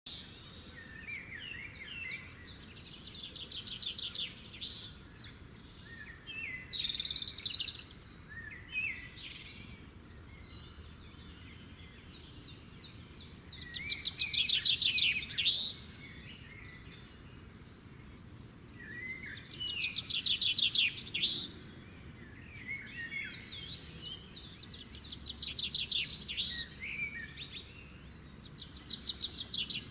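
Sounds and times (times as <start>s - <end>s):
birds chirping trills: 0.1s - 29.9s
low background noise: 0.1s - 29.9s.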